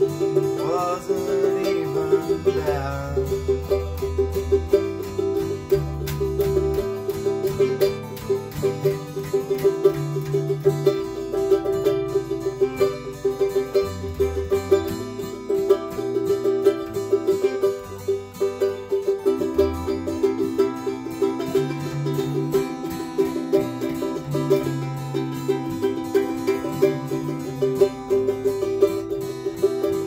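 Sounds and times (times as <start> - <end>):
acoustic guitar: 0.0 - 30.0
electric bass guitar: 0.0 - 30.0
ukulele strumming rapidly: 0.0 - 30.0.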